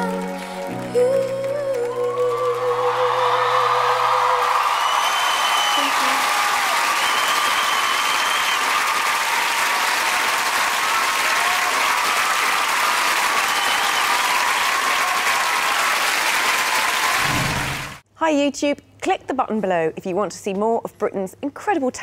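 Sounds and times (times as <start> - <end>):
audience applauding: 0.0 - 18.0
crowd shouting and cheering: 0.0 - 18.0.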